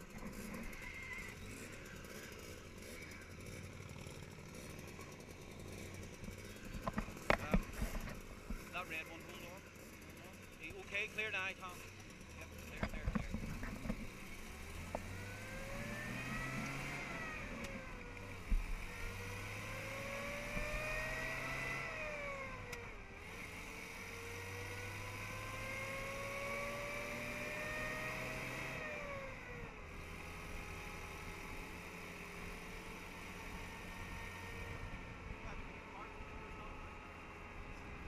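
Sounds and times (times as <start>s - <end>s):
engine accelerating through gears: 0.0s - 38.0s.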